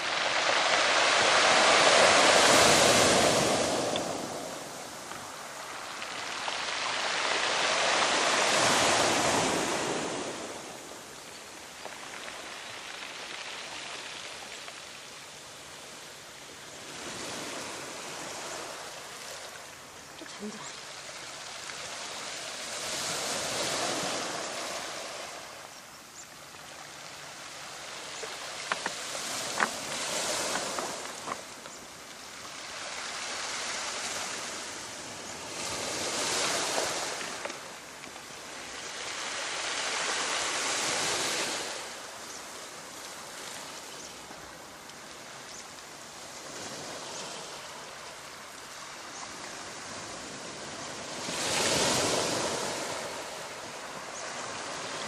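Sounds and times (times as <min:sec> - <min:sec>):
waves washing on shore: 0:00.0 - 0:55.0.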